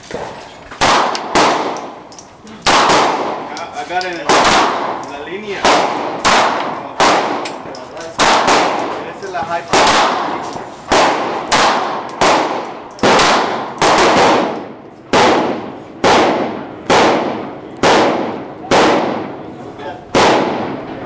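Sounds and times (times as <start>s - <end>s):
pistol shots with echo: 0.8s - 21.0s.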